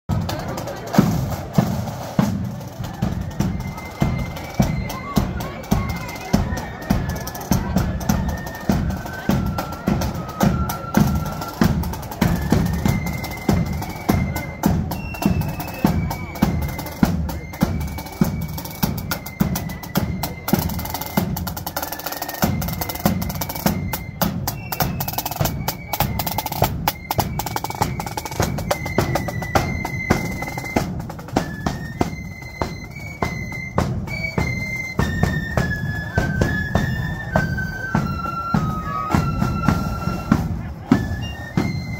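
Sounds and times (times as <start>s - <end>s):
flute melody: 0.3s - 41.9s.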